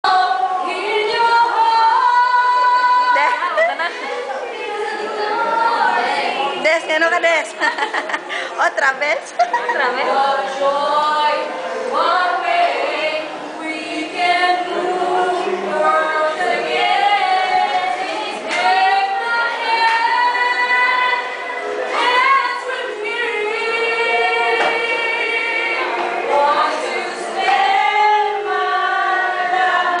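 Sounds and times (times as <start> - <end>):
group singing: 0.0 - 8.5, 9.2 - 30.0.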